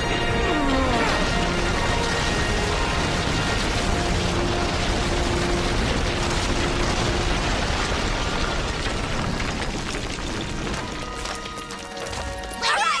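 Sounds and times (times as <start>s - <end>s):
rumbling crash of tumbling boulders: 1.0s - 12.9s.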